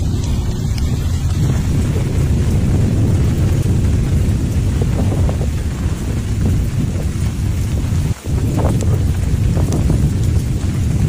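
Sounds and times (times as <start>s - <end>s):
deep continuous volcanic rumble: 0.0s - 11.0s
faint crackles: 0.0s - 11.0s.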